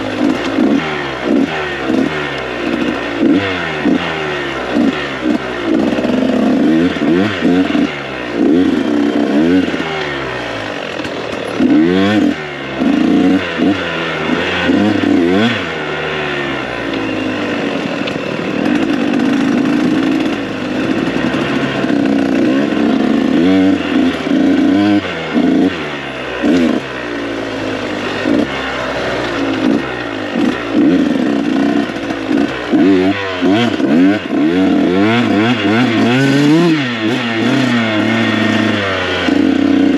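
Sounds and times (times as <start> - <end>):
two-stroke dirt bike engine revving: 0.0 - 39.9.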